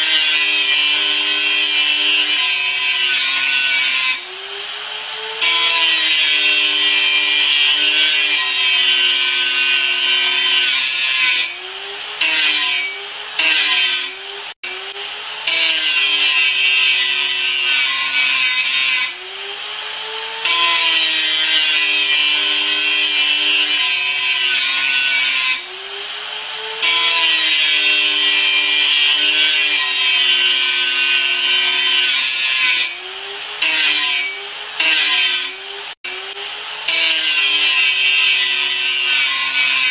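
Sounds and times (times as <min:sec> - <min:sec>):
electric grinder grinding: 0:00.0 - 0:39.9.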